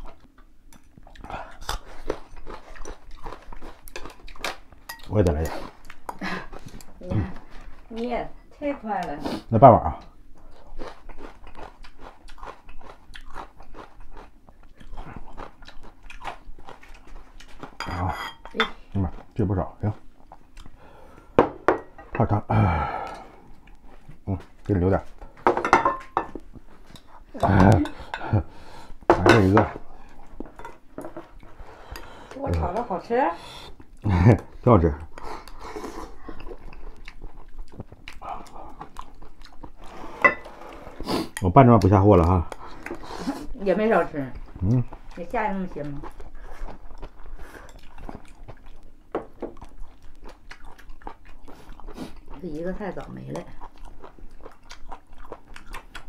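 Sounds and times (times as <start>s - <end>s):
man chewing food: 0.0s - 56.0s.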